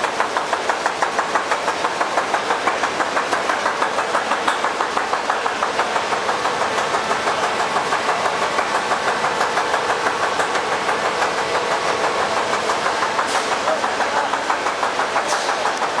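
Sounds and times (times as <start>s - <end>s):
machine pulsing mechanical clatter: 0.0s - 16.0s.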